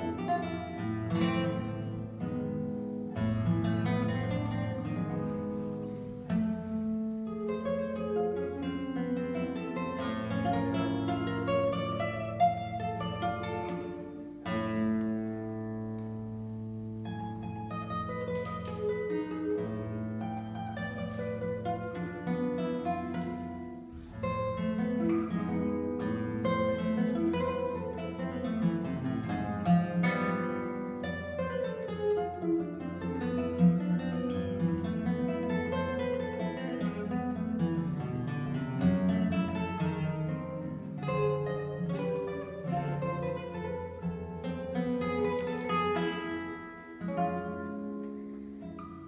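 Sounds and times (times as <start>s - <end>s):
classical guitar fingerstyle: 0.0s - 49.0s.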